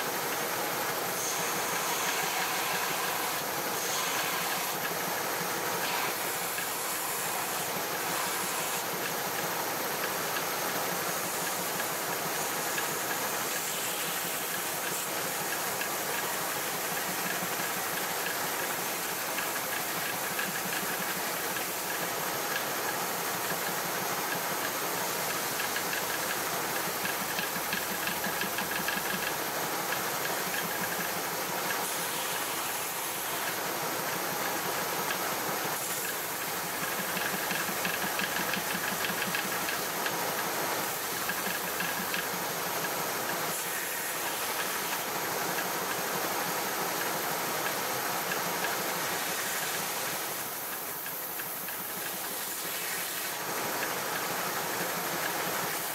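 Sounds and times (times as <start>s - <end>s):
woodworking power tool running: 0.0s - 55.9s.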